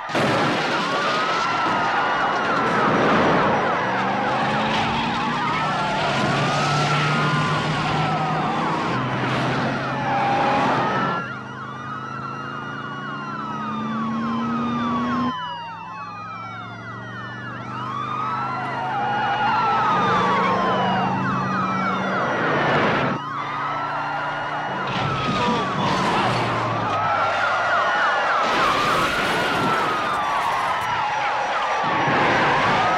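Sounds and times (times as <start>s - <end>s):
car engines running: 0.0s - 32.9s
police sirens wailing: 0.0s - 32.9s.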